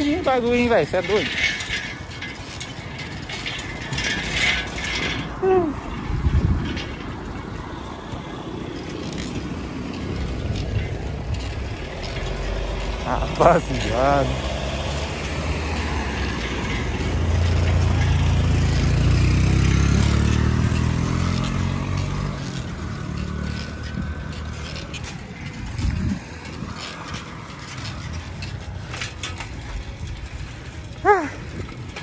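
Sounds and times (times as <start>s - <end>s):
vehicle engine passing by: 3.7s - 31.3s.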